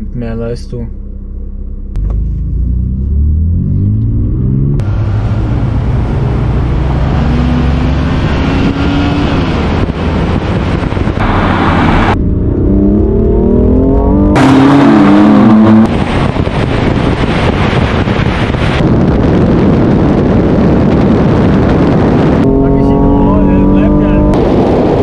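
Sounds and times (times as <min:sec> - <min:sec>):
car engines at full throttle: 0:00.0 - 0:25.0
wind rush: 0:04.3 - 0:25.0.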